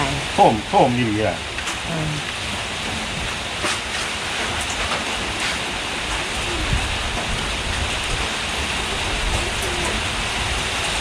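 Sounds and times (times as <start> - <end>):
steady rain hiss: 0.0 - 11.0
taps of raindrops: 0.0 - 11.0.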